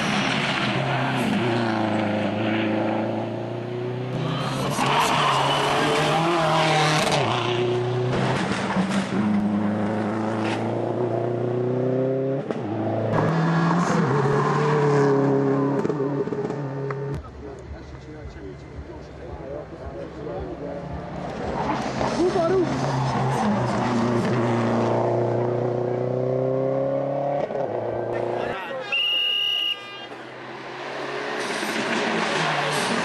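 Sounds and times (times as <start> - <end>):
rally car engine accelerating: 0.0 - 17.3, 20.7 - 28.4, 30.5 - 33.0.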